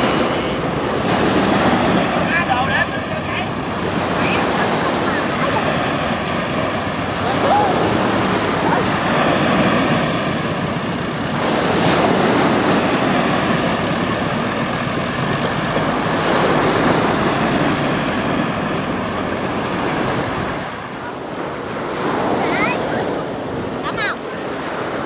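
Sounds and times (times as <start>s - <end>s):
tractor diesel engine running: 0.0s - 22.4s
waves washing up beach: 0.0s - 25.0s
wind buffeting microphone: 0.0s - 25.0s.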